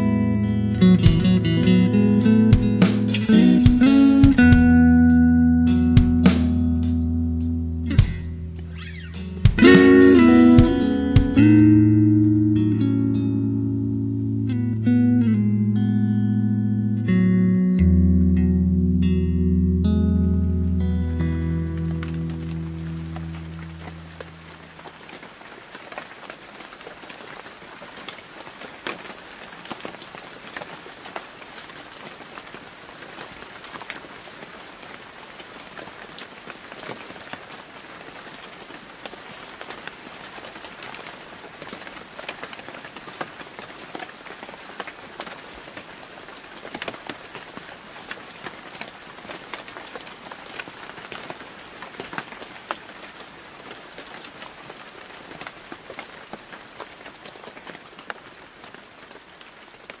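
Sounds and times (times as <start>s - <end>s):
sharp ticks of raindrops: 0.0s - 15.4s, 17.0s - 60.0s
rain falling on pavement: 0.8s - 15.3s, 20.5s - 60.0s.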